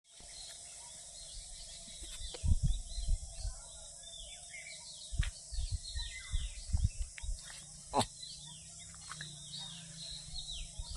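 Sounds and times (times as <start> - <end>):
bird chirps: 0.1 - 10.9.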